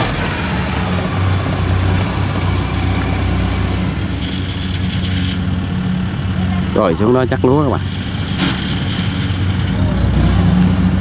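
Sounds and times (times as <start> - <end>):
tracked vehicle engine running: 0.0 - 11.0.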